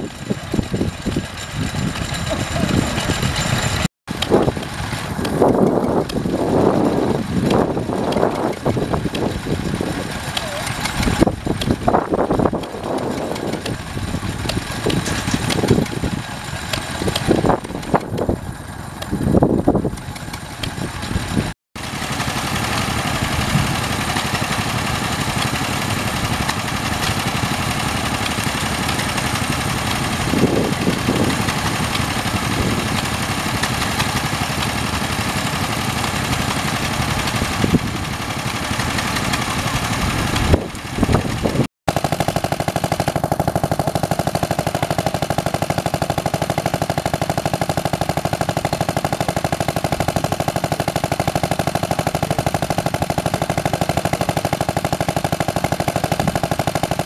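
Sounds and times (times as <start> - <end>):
stationary engine running: 0.0 - 57.0.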